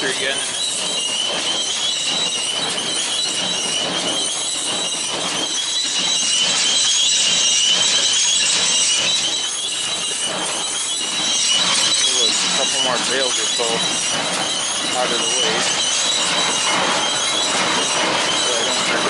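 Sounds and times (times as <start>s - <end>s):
baler machine running: 0.0s - 19.0s
high-pitched squeal: 0.0s - 19.0s.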